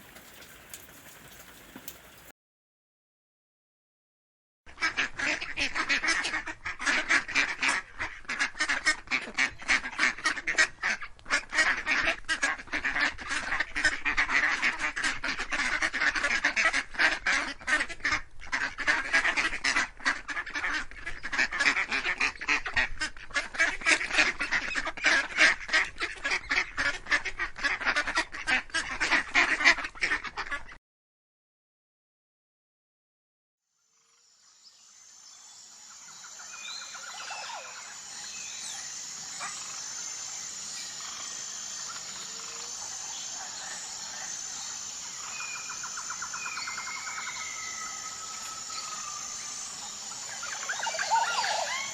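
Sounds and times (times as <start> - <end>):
waterfowl calling: 4.7 - 30.8, 35.3 - 51.9.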